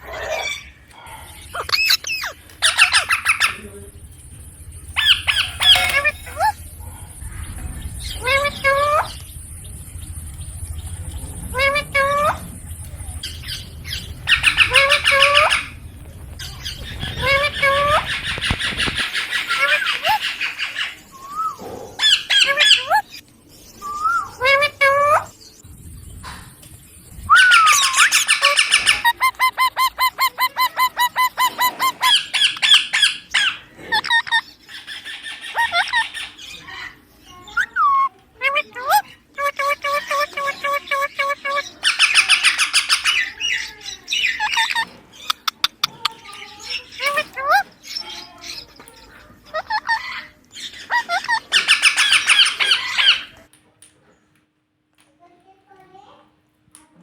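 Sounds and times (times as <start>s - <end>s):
parakeet squawking: 0.0s - 23.2s, 27.3s - 53.5s
parakeet chirping calls: 0.0s - 53.5s.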